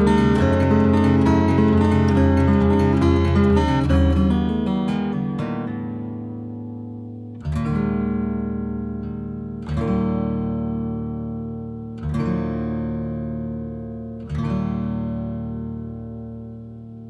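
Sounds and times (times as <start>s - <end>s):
acoustic guitar chords strummed: 0.0s - 17.0s.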